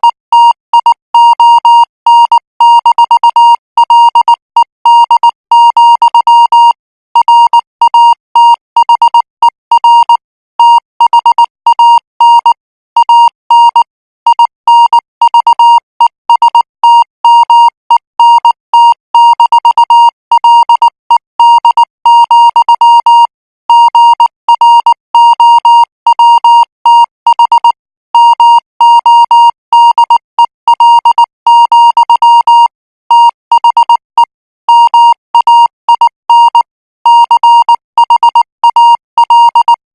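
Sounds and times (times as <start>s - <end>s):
morse code beeps: 0.0s - 39.8s.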